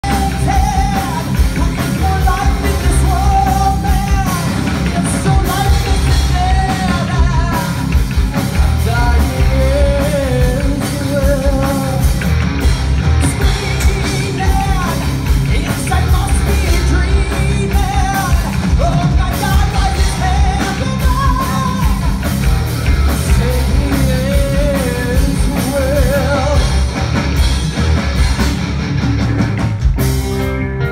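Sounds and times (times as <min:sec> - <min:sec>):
person singing: 0:00.0 - 0:12.2, 0:13.2 - 0:22.2, 0:23.1 - 0:26.8
drums: 0:00.0 - 0:30.9
electric bass: 0:00.0 - 0:30.9
electric guitar: 0:00.0 - 0:30.9.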